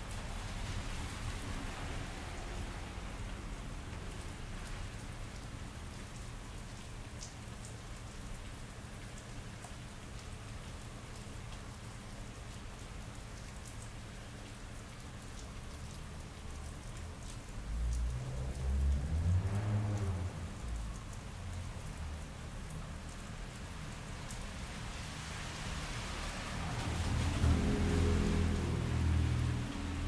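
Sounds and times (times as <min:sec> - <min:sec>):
rain on wet pavement: 0:00.0 - 0:30.0
drips: 0:03.2 - 0:30.0.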